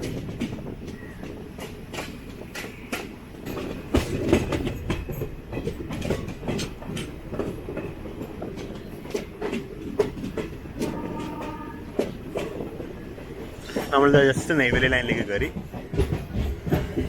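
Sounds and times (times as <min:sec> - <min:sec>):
train rumbling on track: 0:00.0 - 0:17.0
wheels clattering over rail joints: 0:00.0 - 0:17.0.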